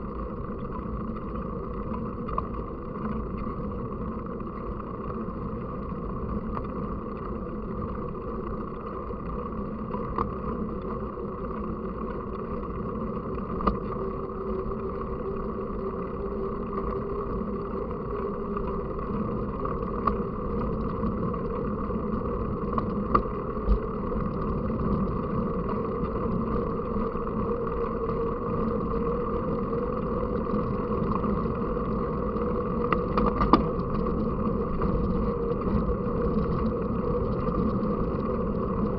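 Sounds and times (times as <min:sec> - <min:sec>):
bike rolling noise: 0:00.0 - 0:38.9.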